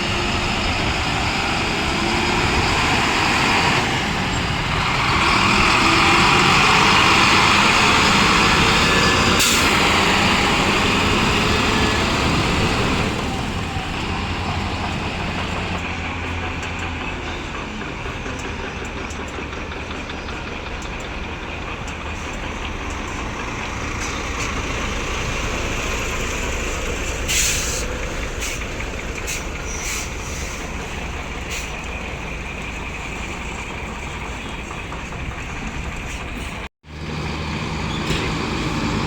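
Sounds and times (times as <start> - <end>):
heavy truck engine rumble: 0.0 - 39.0
road noise: 0.0 - 39.0.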